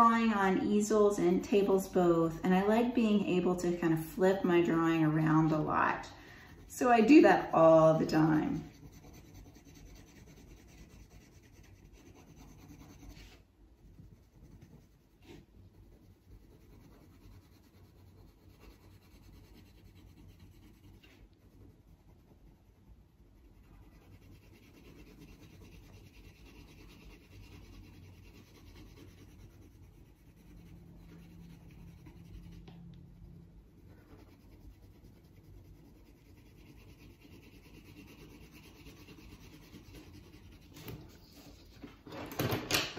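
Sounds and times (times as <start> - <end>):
pencil scratching on paper: 0.0 - 42.0.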